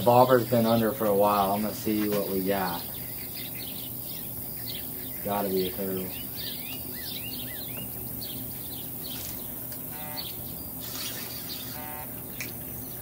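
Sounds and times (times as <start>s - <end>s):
birds chirping: 0.0s - 13.0s
longer lower bird calls: 0.0s - 13.0s.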